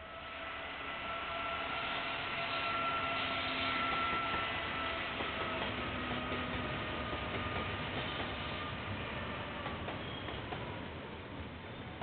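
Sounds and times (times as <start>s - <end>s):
diesel train rumble and whine: 0.0s - 12.0s.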